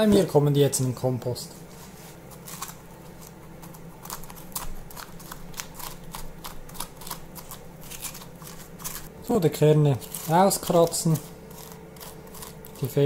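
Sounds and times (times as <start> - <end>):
metal spoon scraping pumpkin: 2.4 - 13.0.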